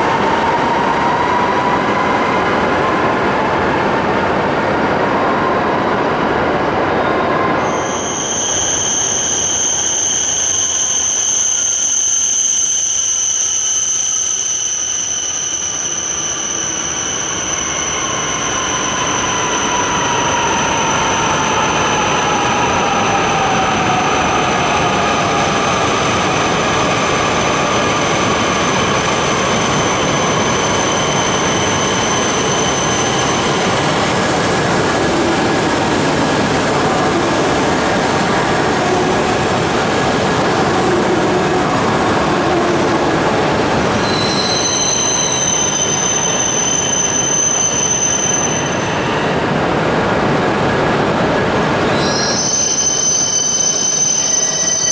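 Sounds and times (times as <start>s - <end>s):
train rushing: 0.0s - 54.9s.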